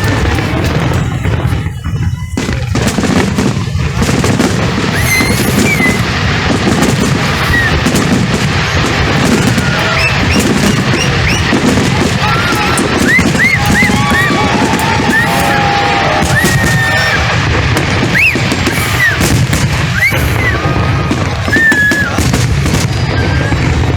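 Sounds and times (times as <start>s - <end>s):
fireworks bangs and crackle: 0.0s - 23.9s
fireworks whistling: 0.0s - 23.9s.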